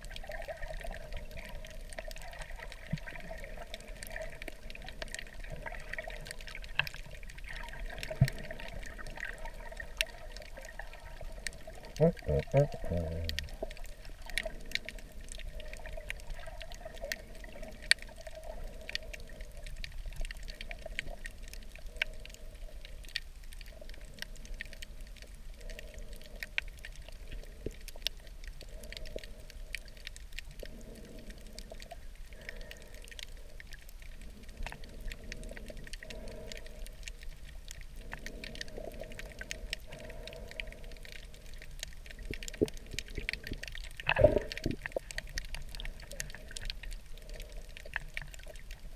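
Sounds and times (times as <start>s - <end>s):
muffled rushing water: 0.0s - 48.9s
underwater crackle of clicks: 0.0s - 48.9s.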